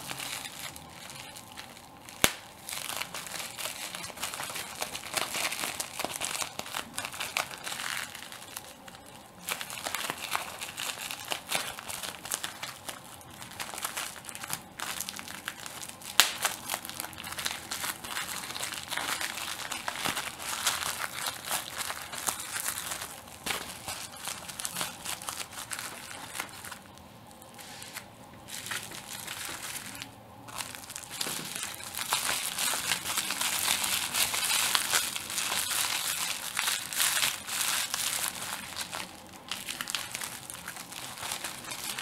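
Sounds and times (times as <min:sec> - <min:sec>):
bubble wrap crinkling and popping: 0:00.0 - 0:42.0.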